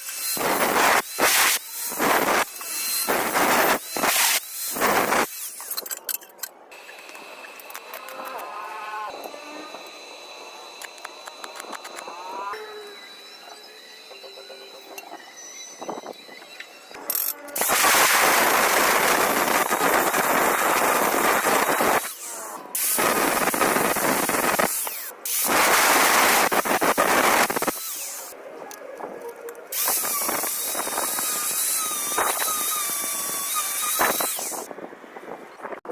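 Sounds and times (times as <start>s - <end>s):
electric power tool on metal: 0.0s - 5.9s, 6.8s - 28.4s, 29.8s - 34.7s.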